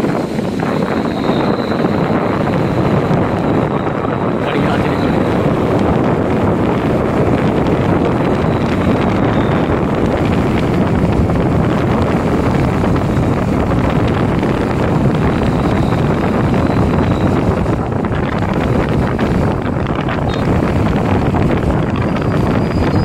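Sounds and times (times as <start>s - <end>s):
road and engine noise: 0.0s - 23.0s
wind buffeting microphone: 0.0s - 23.0s.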